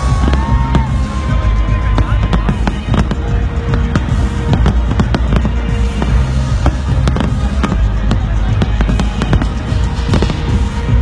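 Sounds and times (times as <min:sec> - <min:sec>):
fireworks bangs: 0:00.0 - 0:11.0
loud music: 0:00.0 - 0:11.0.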